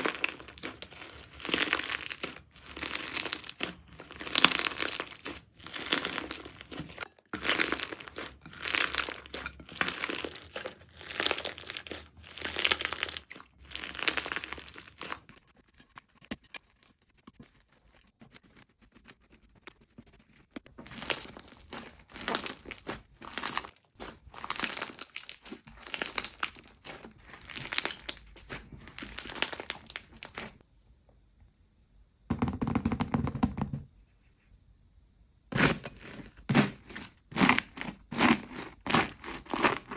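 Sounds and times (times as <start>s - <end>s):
slime squishing by hand: 0.0s - 30.6s, 35.5s - 39.9s.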